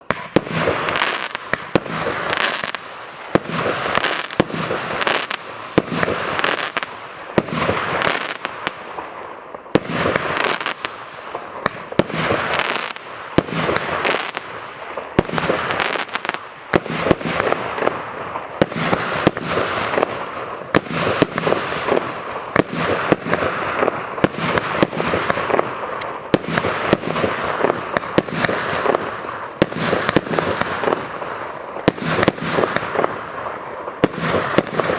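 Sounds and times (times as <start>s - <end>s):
firework shots launching: 0.0s - 33.4s, 34.0s - 34.9s
firework crackling: 0.0s - 34.9s.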